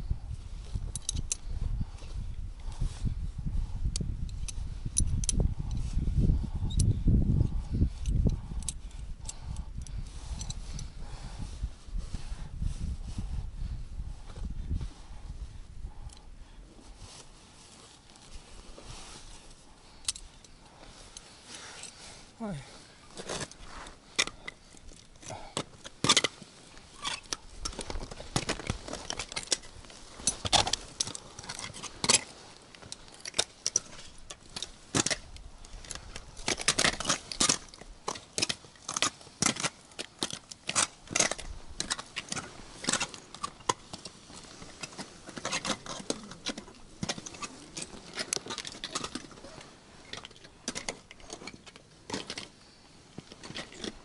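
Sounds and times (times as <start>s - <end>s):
metal climbing gear clinking: 0.1s - 11.1s, 17.8s - 54.0s.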